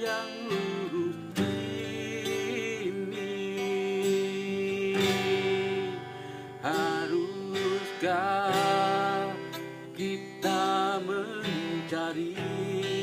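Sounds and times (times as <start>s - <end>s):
acoustic guitar: 0.0s - 13.0s
person singing: 0.0s - 13.0s.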